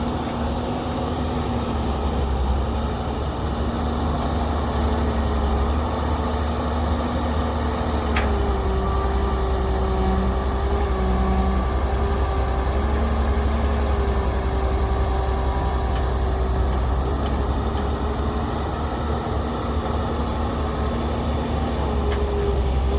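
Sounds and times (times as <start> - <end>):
heavy machine engine rumbling: 0.0 - 22.9.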